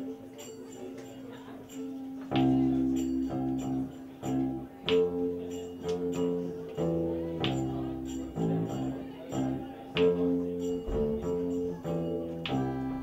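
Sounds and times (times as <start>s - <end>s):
plucked strings: 0.0s - 13.0s.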